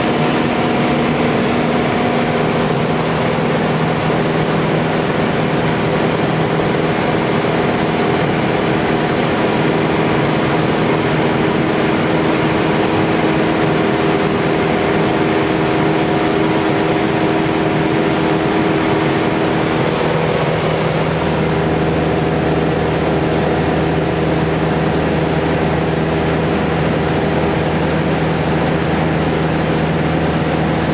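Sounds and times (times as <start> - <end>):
aircraft engine and propeller: 0.0 - 30.9.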